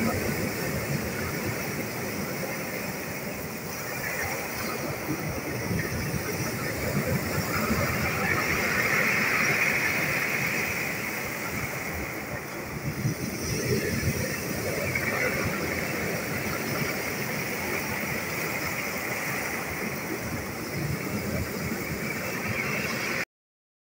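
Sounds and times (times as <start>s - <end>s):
surf washing up pebble beach: 0.0s - 23.2s.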